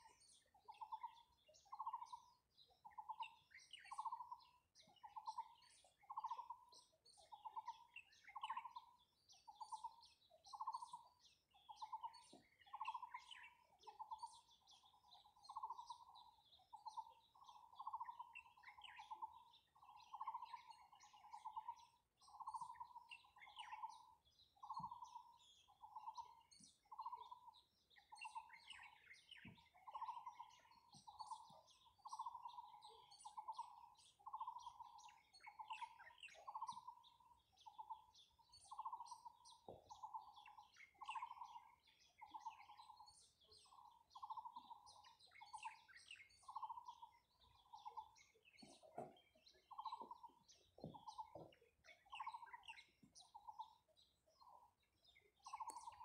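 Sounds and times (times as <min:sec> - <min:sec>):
high bird chirps: 0:05.0 - 0:56.0.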